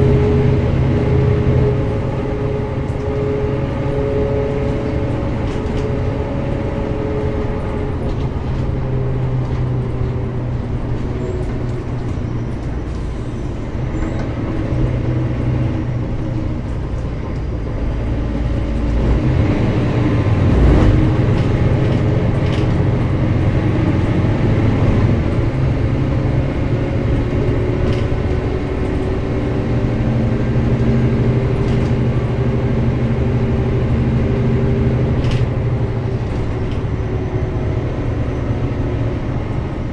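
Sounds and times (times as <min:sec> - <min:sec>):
bus engine shifting gears: 0:00.0 - 0:39.9.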